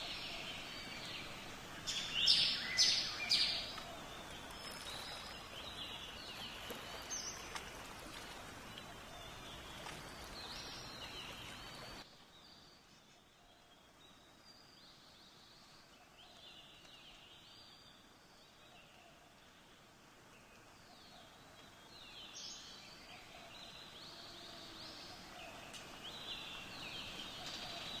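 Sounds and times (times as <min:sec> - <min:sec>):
songbirds chirping: 0:00.0 - 0:28.0
steady background hiss: 0:00.0 - 0:28.0.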